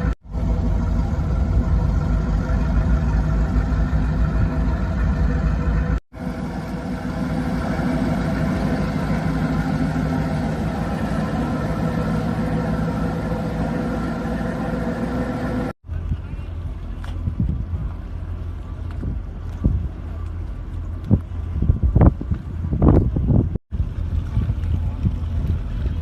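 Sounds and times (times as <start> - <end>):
boat engine rumbling: 0.0 - 26.0.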